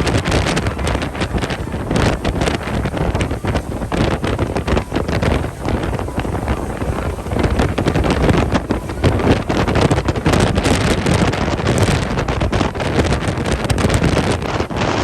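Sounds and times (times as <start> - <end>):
heavy wind buffeting microphone: 0.0 - 15.0.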